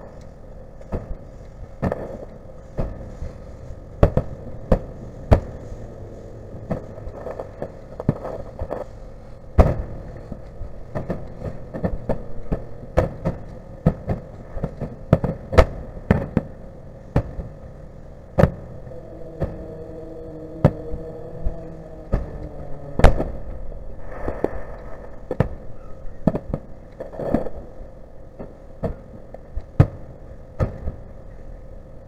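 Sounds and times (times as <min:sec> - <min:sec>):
fireworks bursting with sharp bangs: 0:00.0 - 0:18.7, 0:22.1 - 0:27.7, 0:28.4 - 0:31.2.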